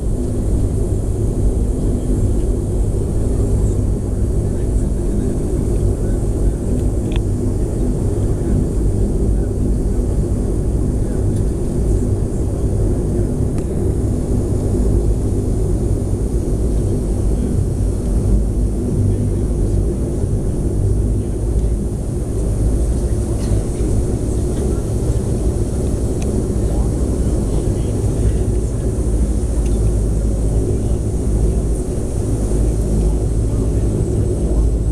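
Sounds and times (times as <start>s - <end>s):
aircraft engines rumbling: 0.0s - 34.9s.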